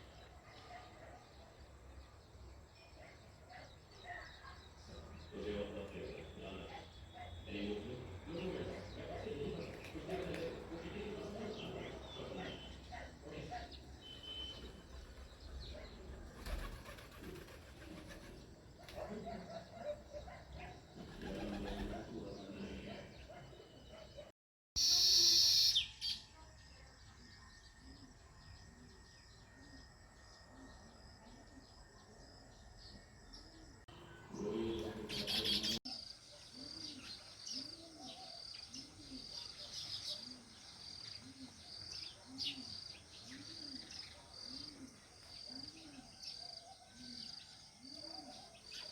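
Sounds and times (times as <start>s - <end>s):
sparrows chirping: 0.0s - 48.9s.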